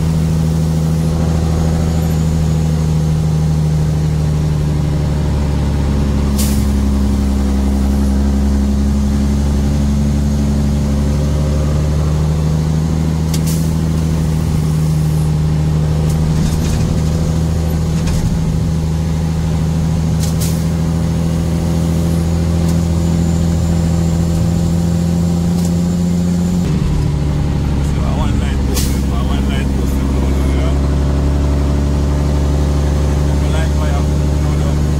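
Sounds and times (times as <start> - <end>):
car engine hum: 0.0 - 34.9
road noise: 0.0 - 34.9.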